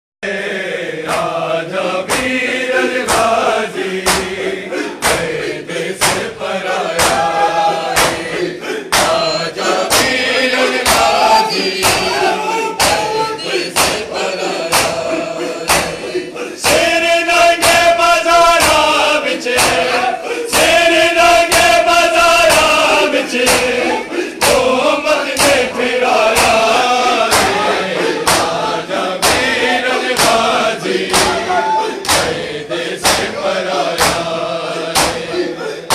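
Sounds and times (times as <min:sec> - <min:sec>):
men chanting a lament: 0:00.2 - 0:35.9
chest-beating slaps: 0:01.1 - 0:01.4, 0:02.0 - 0:20.8, 0:21.4 - 0:35.9.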